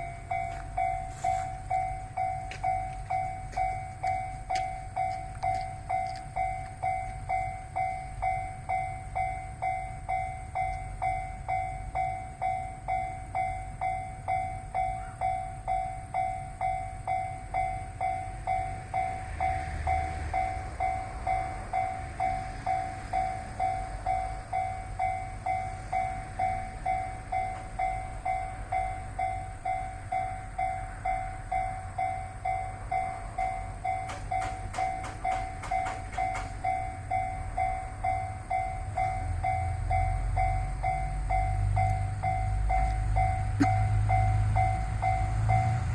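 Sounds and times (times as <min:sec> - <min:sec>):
two-tone electronic bell: 0:00.0 - 0:45.9.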